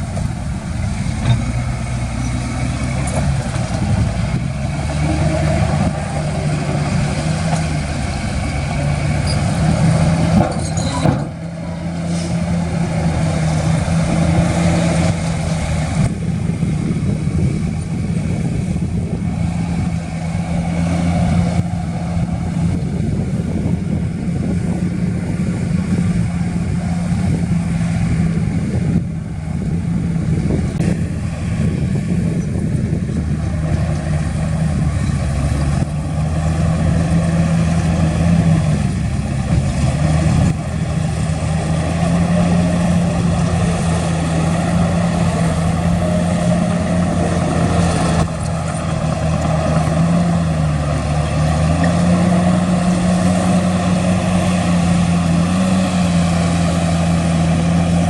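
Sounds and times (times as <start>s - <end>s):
heavy diesel machine engine: 0.0s - 58.0s.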